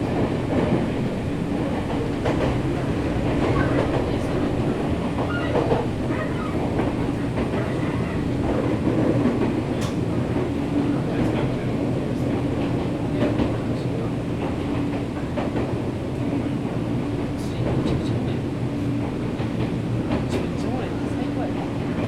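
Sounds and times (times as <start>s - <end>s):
train wheel and rail noise: 0.0s - 22.0s.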